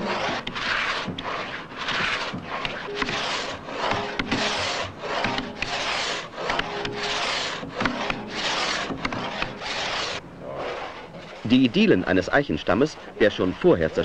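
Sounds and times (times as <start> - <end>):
pit saw rasping strokes: 0.0 - 14.0.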